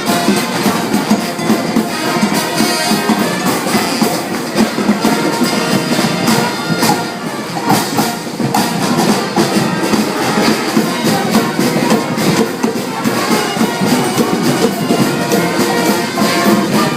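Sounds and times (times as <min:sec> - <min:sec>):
drums beating: 0:00.0 - 0:16.9
marching band playing: 0:00.0 - 0:16.9.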